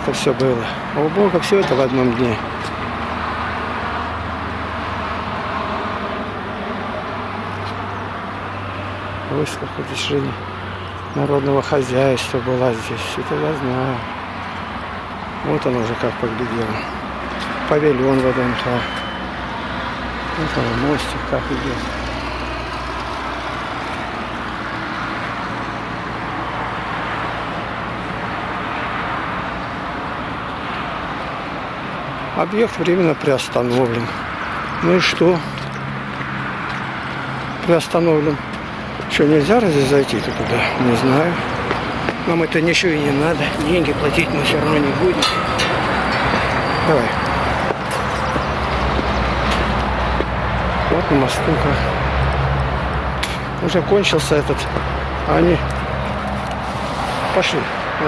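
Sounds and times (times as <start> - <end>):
distant road traffic: 0.0 - 58.0.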